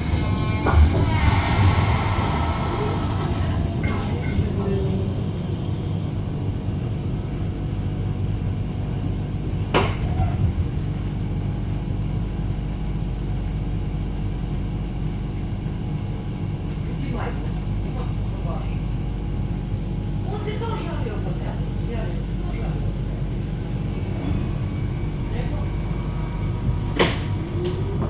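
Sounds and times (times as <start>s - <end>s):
tram cabin rumble: 0.0s - 28.0s.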